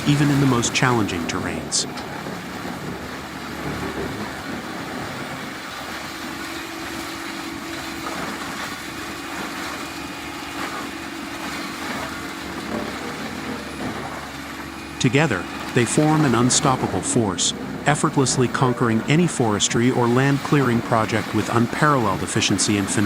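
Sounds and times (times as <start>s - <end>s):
heavy machinery running: 0.0s - 23.0s
steady hum: 0.0s - 23.0s.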